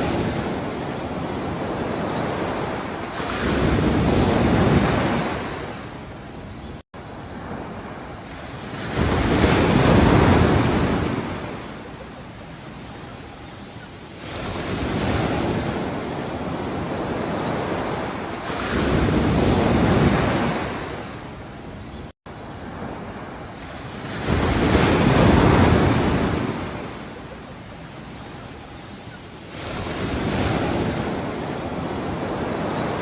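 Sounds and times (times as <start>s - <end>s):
ocean waves breaking on shore: 0.0s - 33.0s.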